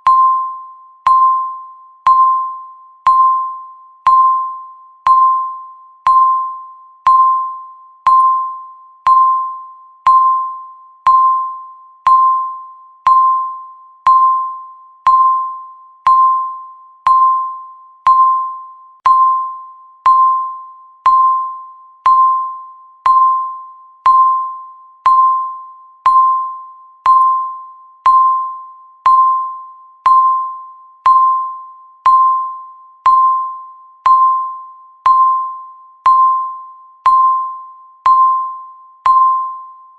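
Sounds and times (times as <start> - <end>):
timer ticking ringing tone: 0.0 - 39.9.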